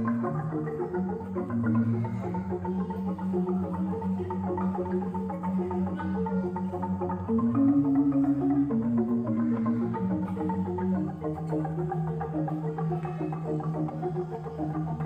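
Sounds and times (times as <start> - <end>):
deep sustained bass notes: 0.0 - 15.0.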